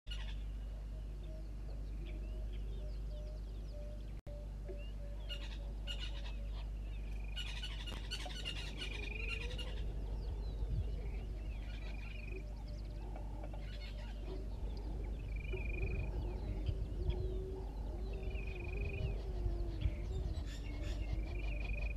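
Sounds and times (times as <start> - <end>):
birds chirping and trilling: 0.1 - 21.9
low evenly spaced bird notes: 0.1 - 21.9
steady low hum: 0.1 - 21.9.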